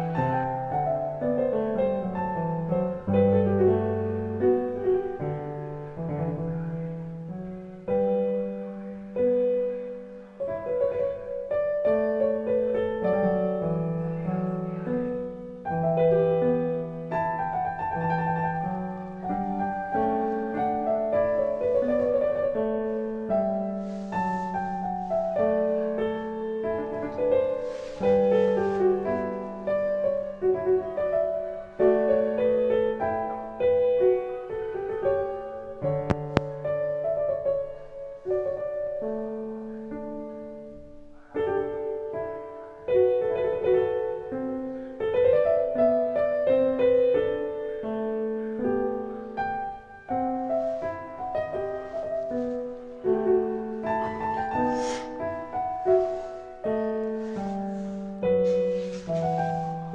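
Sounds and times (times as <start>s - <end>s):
slow solo piano music: 0.0s - 59.9s.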